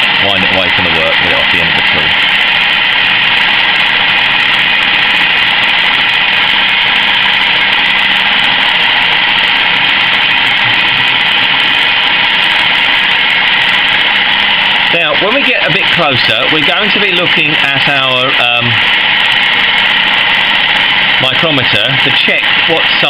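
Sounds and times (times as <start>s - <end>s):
lathe running: 0.0s - 23.0s.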